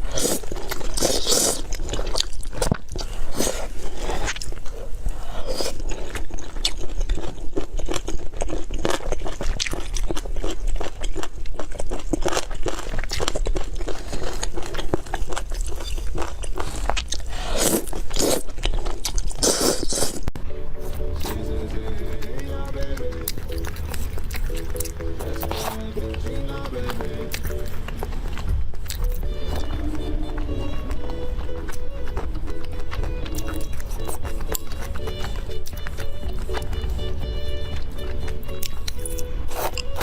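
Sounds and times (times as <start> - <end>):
crunching and chewing crisp food: 0.0 - 40.0.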